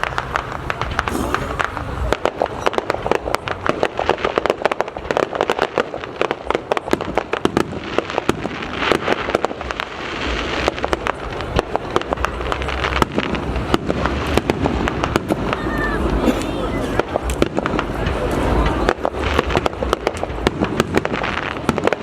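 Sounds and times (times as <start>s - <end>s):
fireworks crackling and popping: 0.0s - 22.0s
fireworks sizzling hiss: 0.0s - 22.0s.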